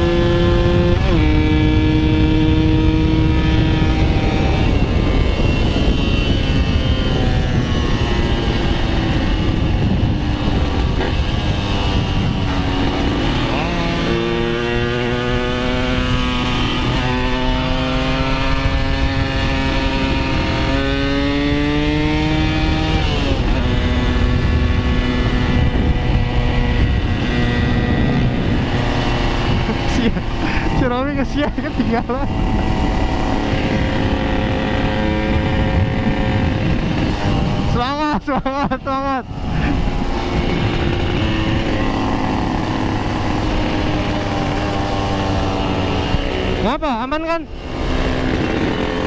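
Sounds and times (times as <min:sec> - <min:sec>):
motorcycle engine revving: 0:00.0 - 0:49.0
wind on microphone: 0:00.0 - 0:49.0.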